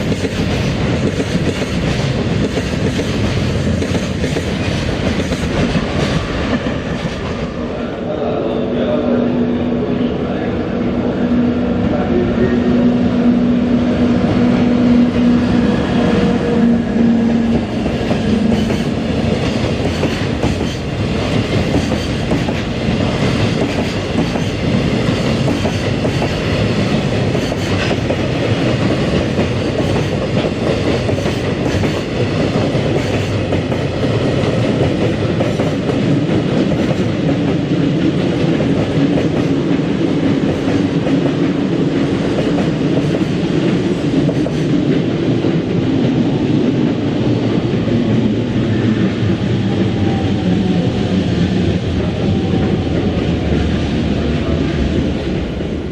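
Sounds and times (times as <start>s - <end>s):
freight train passing: 0.0s - 55.9s.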